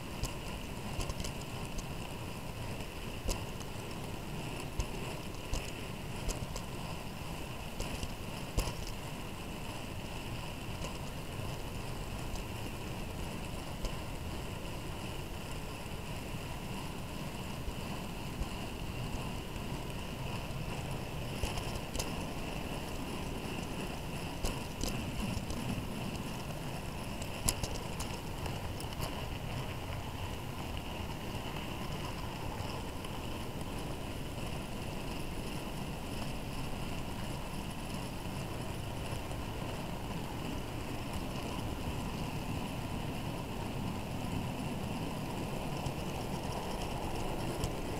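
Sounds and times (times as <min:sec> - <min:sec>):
model train wheels rumbling on rail: 0:01.6 - 0:47.9.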